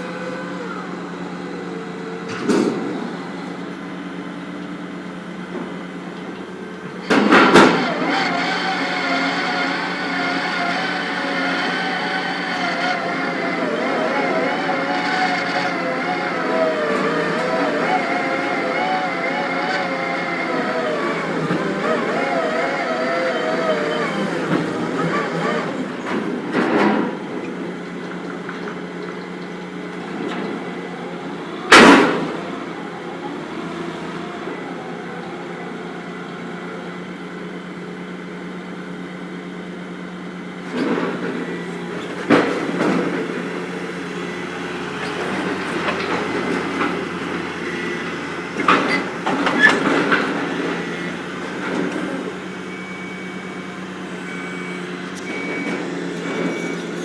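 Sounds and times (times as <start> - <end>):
heavy machinery humming: 0.0 - 57.0.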